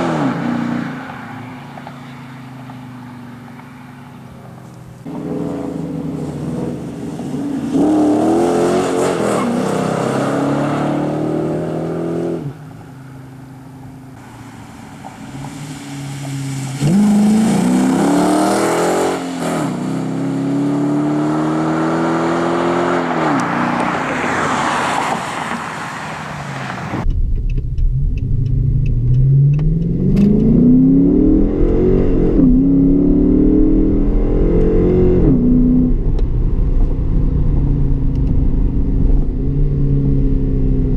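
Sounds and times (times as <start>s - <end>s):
car engine accelerating hard: 0.0s - 24.4s, 26.6s - 40.9s.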